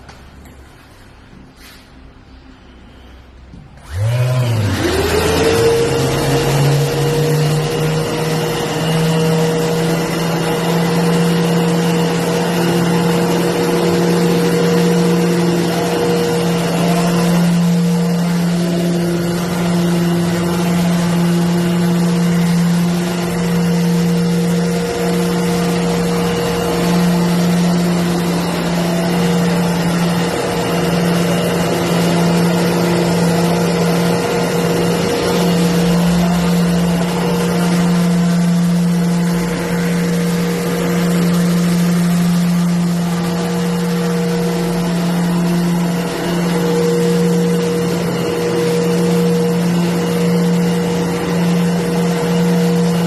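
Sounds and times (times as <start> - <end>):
shop vacuum air rush: 0.0 - 53.0
orbital sander motor hum: 3.8 - 53.0.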